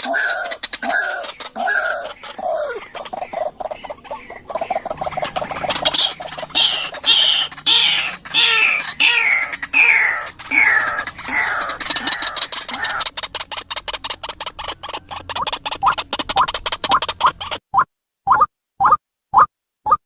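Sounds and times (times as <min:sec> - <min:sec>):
waterhen calling harsh notes: 0:00.0 - 0:20.0.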